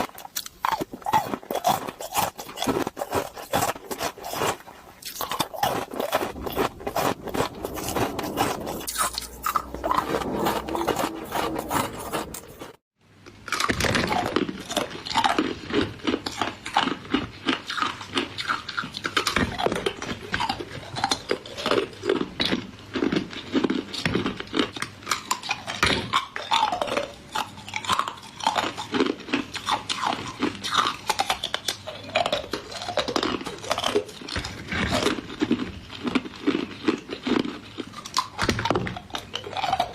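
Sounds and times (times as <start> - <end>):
ice cubes crunched and chewed: 0.0 - 12.8, 13.4 - 39.9.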